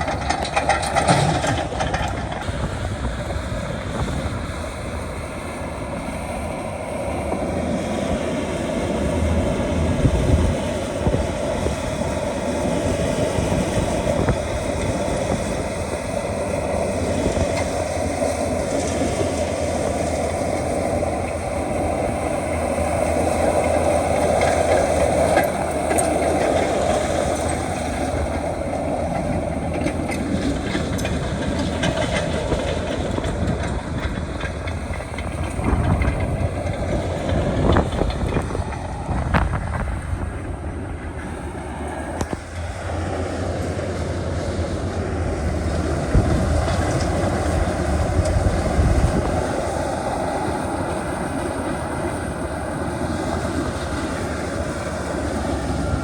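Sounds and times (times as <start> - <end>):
heavy machinery engine under load: 0.0 - 56.0.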